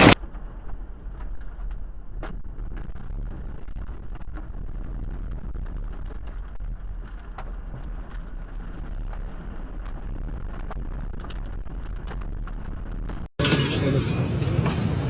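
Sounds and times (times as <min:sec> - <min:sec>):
hailstones striking: 0:00.0 - 0:13.3
wind: 0:00.0 - 0:15.0.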